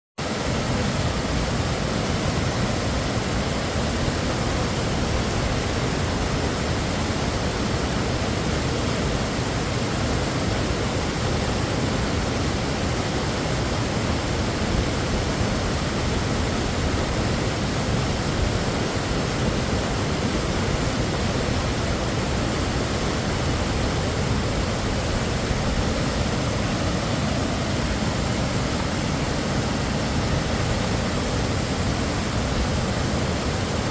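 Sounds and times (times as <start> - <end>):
whitewater rushing over rocks: 0.2 - 33.9.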